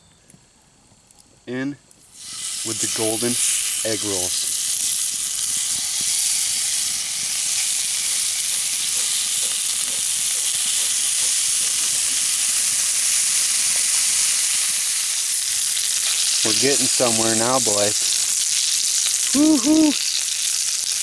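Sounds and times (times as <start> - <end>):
bacon sizzling in a skillet: 2.0 - 21.0.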